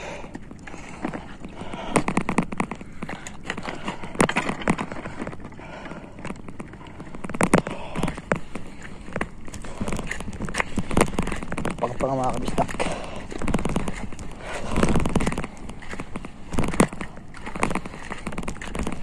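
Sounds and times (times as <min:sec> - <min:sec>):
footsteps: 0:00.0 - 0:19.0.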